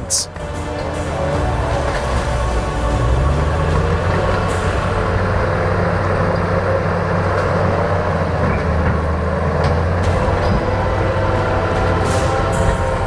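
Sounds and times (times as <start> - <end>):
bulldozer engine running under load: 0.0 - 13.0.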